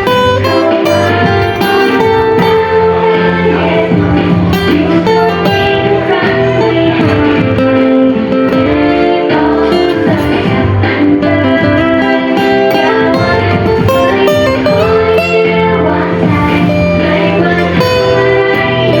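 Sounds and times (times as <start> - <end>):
bass line: 0.0 - 19.0
guitar plucked and strummed: 0.0 - 19.0.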